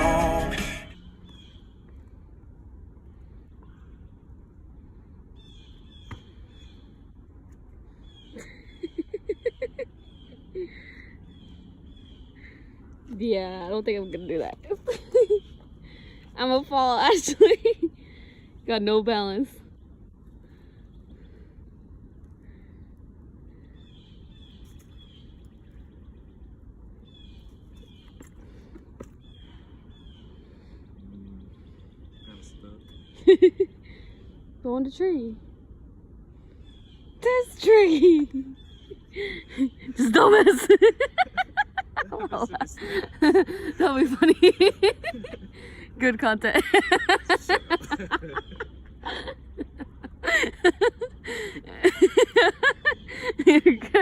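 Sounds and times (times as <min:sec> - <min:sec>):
birds calling: 0:00.0 - 0:02.2, 0:03.0 - 0:54.0
low outdoor rumble: 0:00.0 - 0:54.0.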